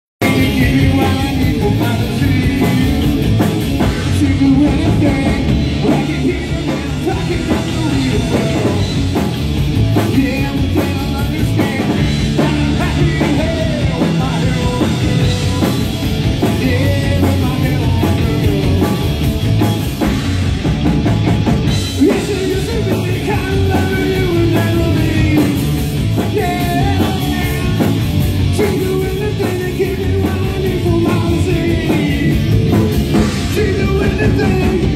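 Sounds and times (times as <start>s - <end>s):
person singing: 0.2s - 9.0s, 10.0s - 19.1s, 22.0s - 34.9s
drum kit: 0.2s - 34.9s
live rock band playing: 0.2s - 34.9s.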